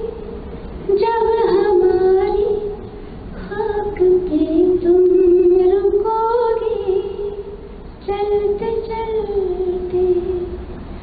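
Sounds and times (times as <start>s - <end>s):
woman singing slow melody: 0.0s - 2.8s, 3.4s - 10.6s.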